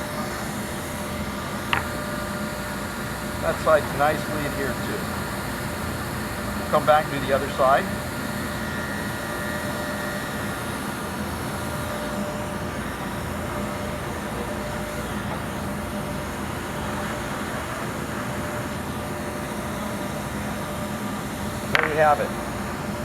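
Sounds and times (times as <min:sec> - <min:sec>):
blower whirring: 0:00.0 - 0:23.0
faint steady hum: 0:00.0 - 0:23.0.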